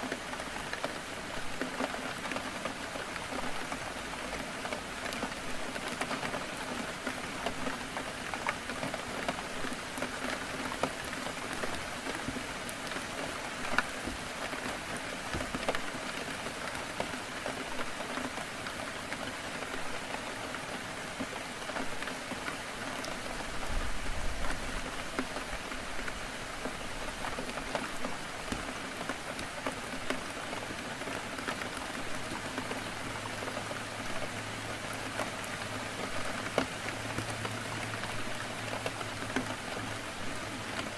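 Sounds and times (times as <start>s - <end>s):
heavy rain on window glass: 0.0s - 40.9s.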